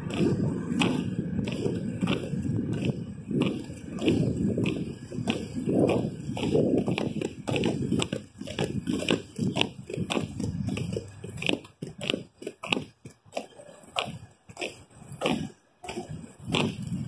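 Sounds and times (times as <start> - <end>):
skate wheels rolling on concrete: 0.0 - 17.0.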